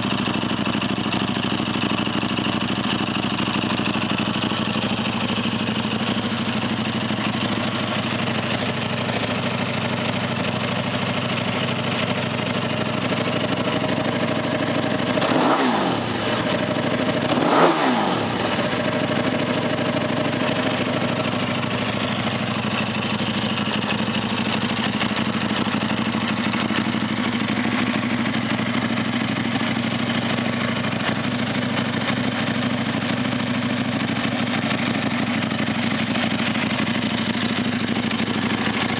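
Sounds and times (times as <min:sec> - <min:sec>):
motorcycle engine revving: 0:00.0 - 0:38.9
motorcycle idling: 0:00.0 - 0:38.9.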